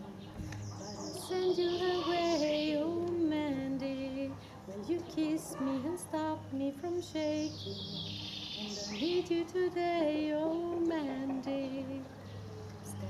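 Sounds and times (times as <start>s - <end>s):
woman singing slow melody: 1.0s - 13.0s.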